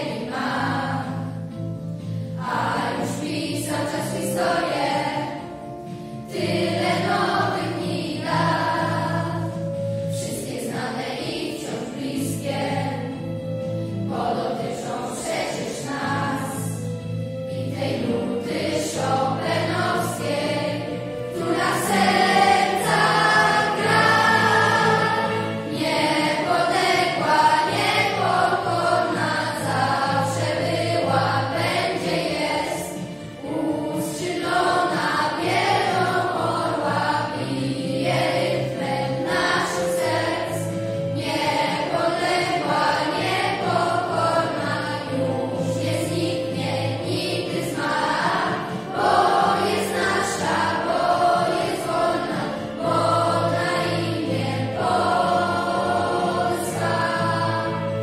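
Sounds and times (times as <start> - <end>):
children's choir singing in unison: 0.0 - 58.0.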